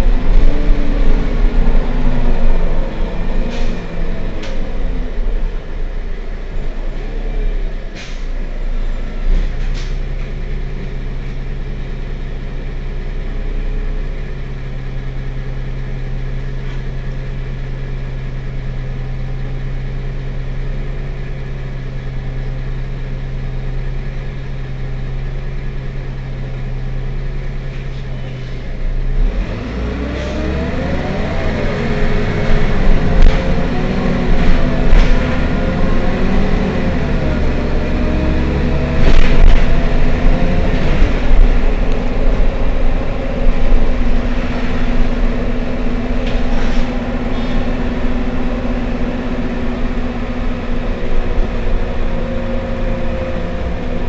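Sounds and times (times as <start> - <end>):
bus engine idling: 0.0 - 29.2, 30.2 - 54.0
bus accelerating away: 0.0 - 54.0.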